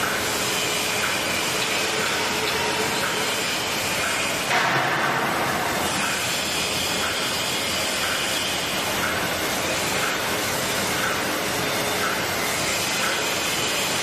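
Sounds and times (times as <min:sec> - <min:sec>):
faint repeated mechanical sound: 0:00.0 - 0:14.0.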